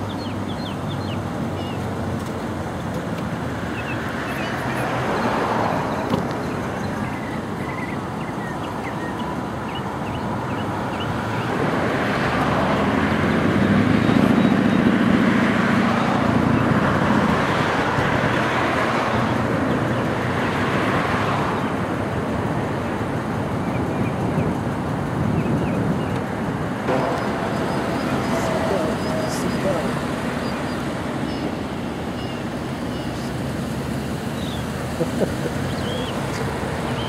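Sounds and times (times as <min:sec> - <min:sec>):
cars driving past: 0:00.0 - 0:37.0
low engine hum: 0:00.0 - 0:37.0.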